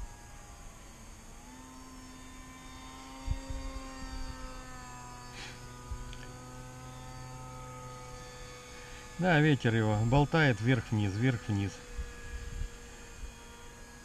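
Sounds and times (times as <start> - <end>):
electric motor and propeller humming: 0.0 - 14.0.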